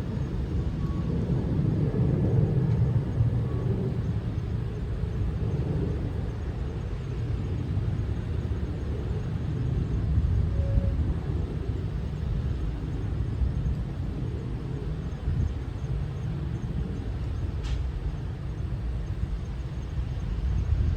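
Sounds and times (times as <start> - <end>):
distant jet taking off: 0.0 - 20.9.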